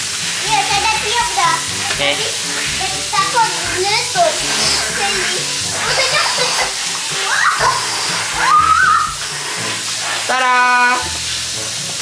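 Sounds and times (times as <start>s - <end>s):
background music: 0.0s - 12.0s
hose water spraying: 0.0s - 12.0s.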